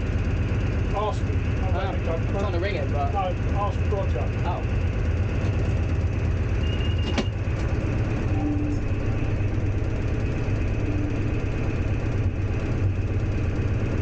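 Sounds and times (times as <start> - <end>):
diesel locomotive engine running: 0.0 - 14.0
train rumbling on the track: 0.0 - 14.0.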